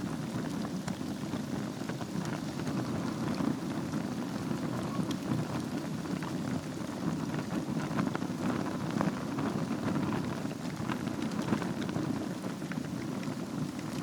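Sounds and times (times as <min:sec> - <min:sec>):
low rumble of fire flames: 0:00.0 - 0:14.0
wood crackling and popping: 0:00.0 - 0:14.0.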